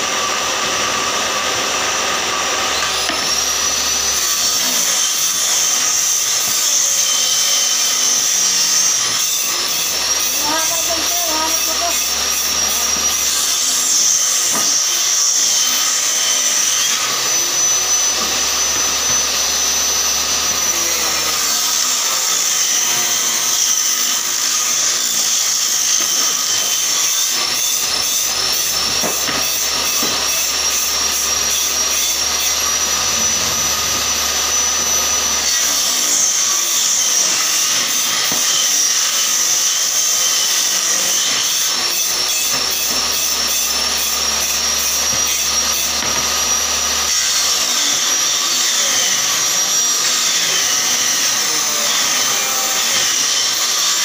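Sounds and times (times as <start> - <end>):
table saw ripping wood: 0.0 - 54.0.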